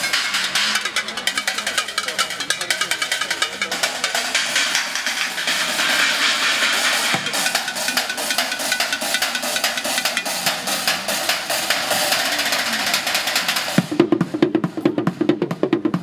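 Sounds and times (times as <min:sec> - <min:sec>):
drumming on pots and buckets: 0:00.0 - 0:16.0.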